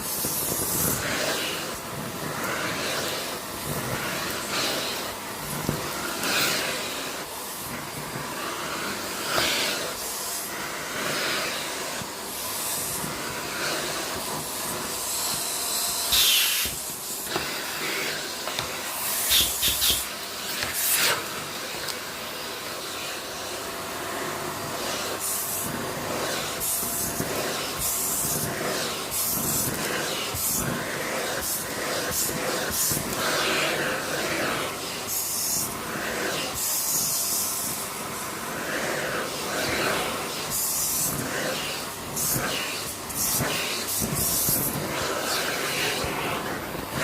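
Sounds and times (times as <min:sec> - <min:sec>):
vacuum cleaner running: 0:00.0 - 0:47.0.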